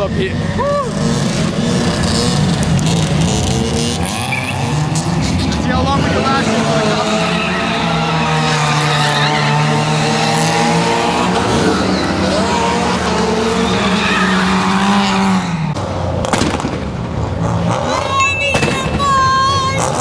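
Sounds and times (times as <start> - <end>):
car engine revving high: 0.0 - 18.7, 19.6 - 20.0.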